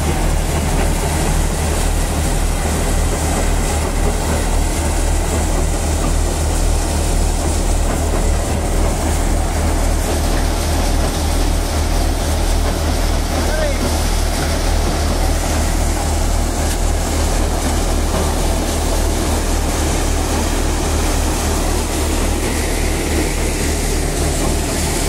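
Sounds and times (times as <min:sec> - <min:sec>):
thresher machine running: 0:00.0 - 0:25.0.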